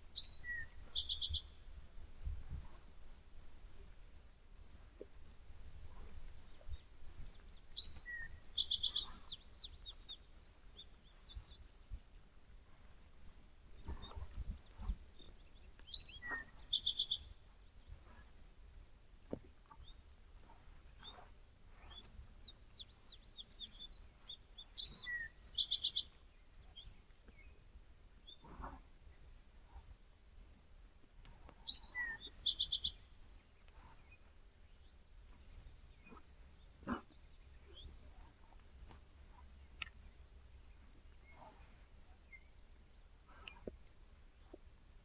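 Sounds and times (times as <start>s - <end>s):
songbirds chirping: 0.0s - 45.0s
soft rustle: 1.7s - 8.4s, 9.0s - 16.6s, 17.4s - 24.7s, 26.1s - 31.8s, 33.1s - 45.0s.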